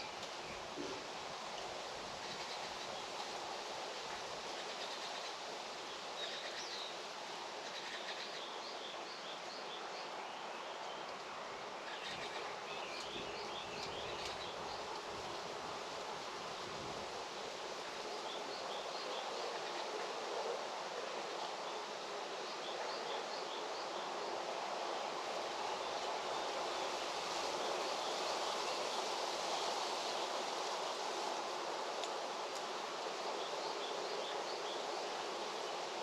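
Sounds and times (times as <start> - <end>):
steady rushing hiss: 0.0 - 36.0.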